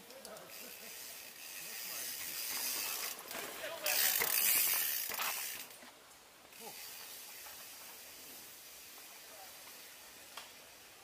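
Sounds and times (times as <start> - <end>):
bike tyres hissing over dirt: 0.4 - 11.0.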